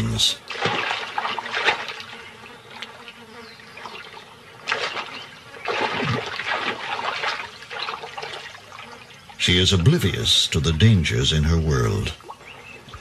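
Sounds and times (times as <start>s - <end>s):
water splashing: 0.0s - 3.0s, 3.7s - 13.0s.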